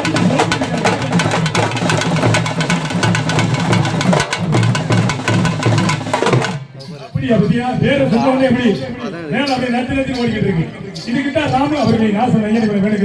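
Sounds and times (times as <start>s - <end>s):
folk drum ensemble playing: 0.0s - 12.7s.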